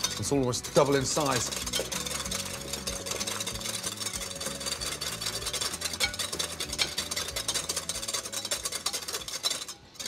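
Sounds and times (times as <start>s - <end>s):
whisk scraping ceramic bowl: 0.0s - 10.0s.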